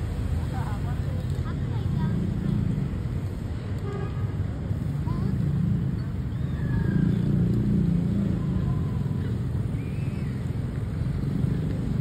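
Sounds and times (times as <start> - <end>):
car and motorcycle engines rumbling: 0.0 - 12.0.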